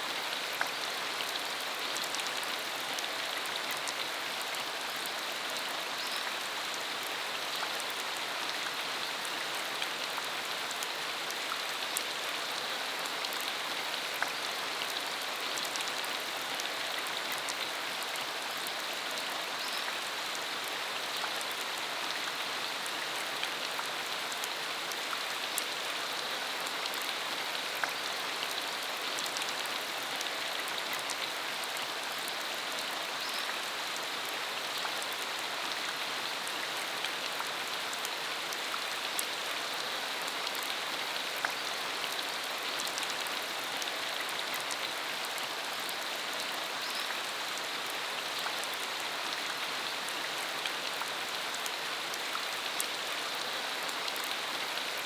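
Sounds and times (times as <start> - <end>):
rain on a dirt road: 0.0 - 55.0.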